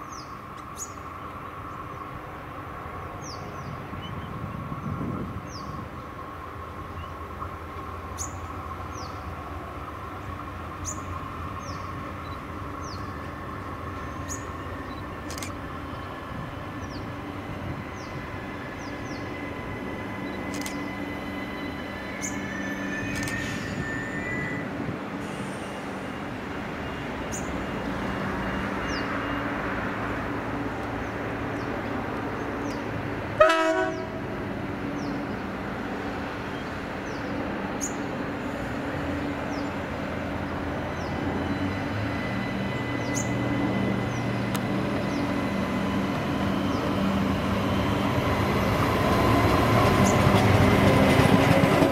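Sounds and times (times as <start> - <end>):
diesel railcar engine rumbling: 0.0 - 51.9.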